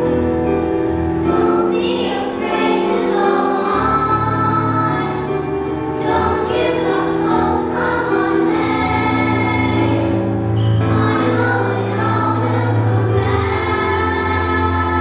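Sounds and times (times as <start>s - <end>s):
instrumental accompaniment with bass: 0.0s - 15.0s
children singing together: 1.0s - 15.0s.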